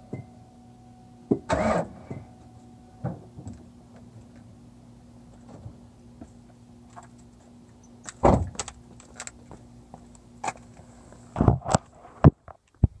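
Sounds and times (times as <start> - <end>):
fuel pump humming: 0.0 - 11.5.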